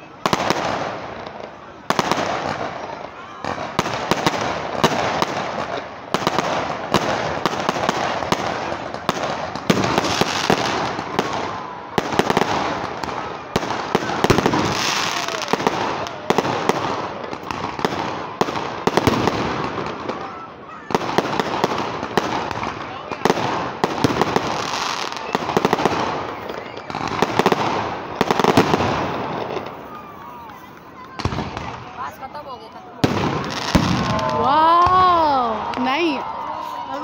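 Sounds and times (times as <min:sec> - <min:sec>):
firework crackling: 0:00.0 - 0:37.0
fireworks bangs: 0:00.0 - 0:37.0.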